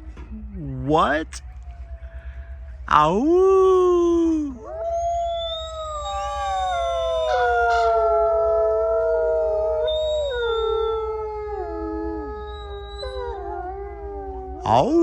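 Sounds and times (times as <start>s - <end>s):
wolves howling: 1.0s - 15.0s.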